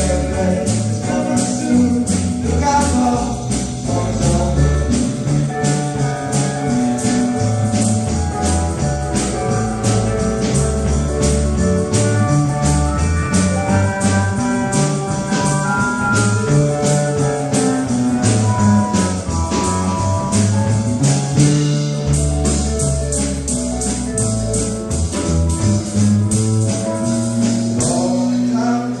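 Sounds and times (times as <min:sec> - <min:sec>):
bass line: 0:00.0 - 0:29.0
drums keeping a steady beat: 0:00.0 - 0:29.0.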